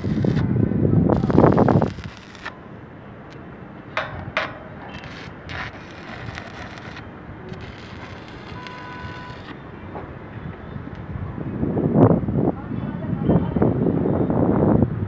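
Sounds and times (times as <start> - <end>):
distant city traffic: 0.0 - 15.0
wind: 0.0 - 15.0.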